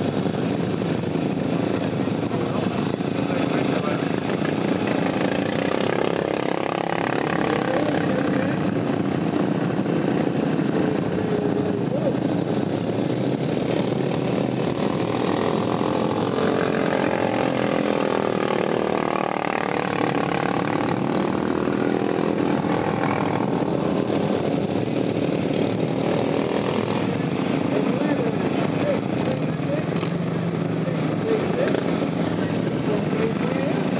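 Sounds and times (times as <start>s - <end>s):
lawn mower engine racing: 0.0s - 33.9s.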